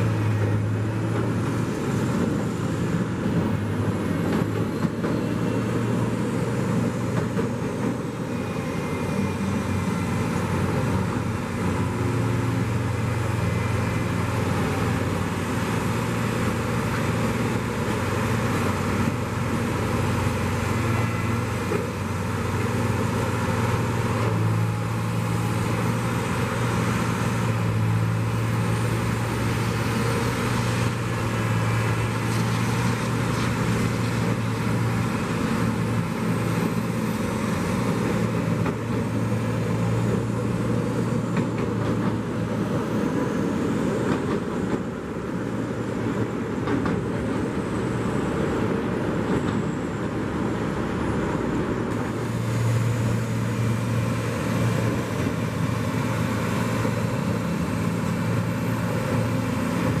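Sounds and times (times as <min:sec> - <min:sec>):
diesel engine hum: 0:00.0 - 1:00.0
road traffic noise: 0:00.0 - 1:00.0.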